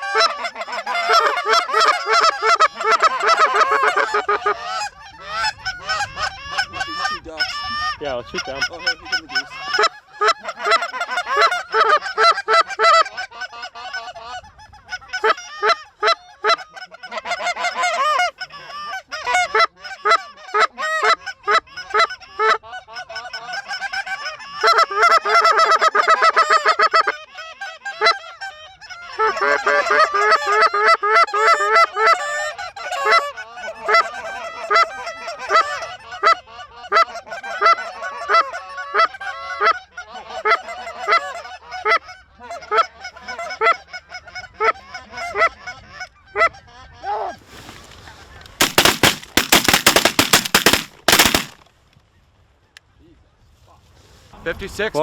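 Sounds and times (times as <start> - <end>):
geese honking and clucking: 0.0 - 46.6, 48.6 - 51.6.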